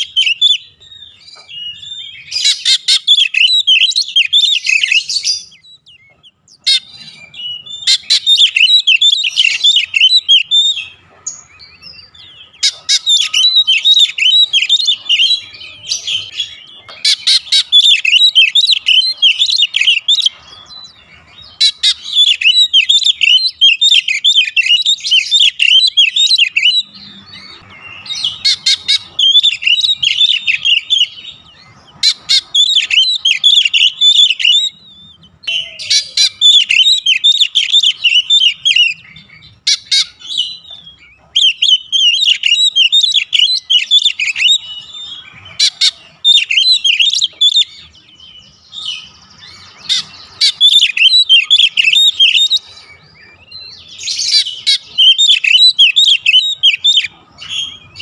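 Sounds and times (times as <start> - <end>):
bird singing chirps and whistles: 0.0 - 58.0.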